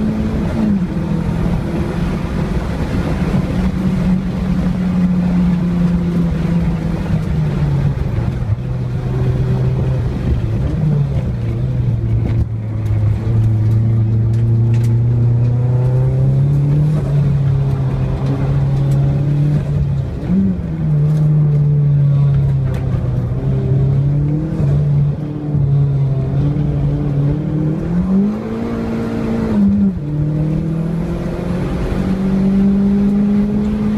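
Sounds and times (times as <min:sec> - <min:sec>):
car engine revving inside cabin: 0:00.0 - 0:33.9.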